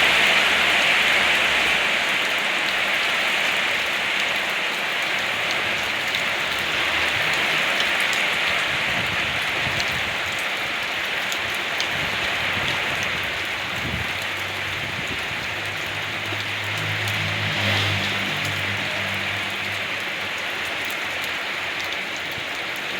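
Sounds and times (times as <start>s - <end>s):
rain pattering on surfaces: 0.0s - 22.9s.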